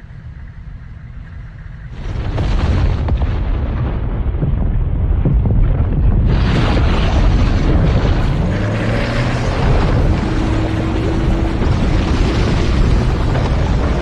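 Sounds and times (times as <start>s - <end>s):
deep rumble of fire and eruption: 0.0s - 14.0s.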